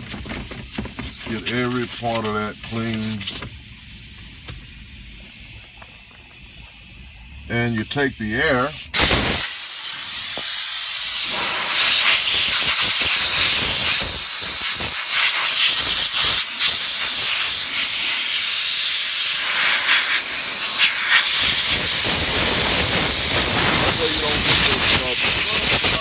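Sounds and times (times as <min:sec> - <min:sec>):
compressed air hissing from nozzle: 0:00.0 - 0:26.0.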